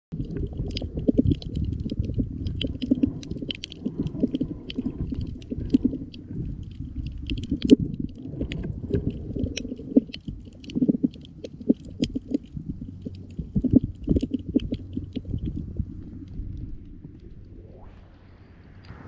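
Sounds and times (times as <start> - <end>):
low underwater rumbling: 0.1 - 19.0
snapping shrimp crackle: 0.2 - 17.4.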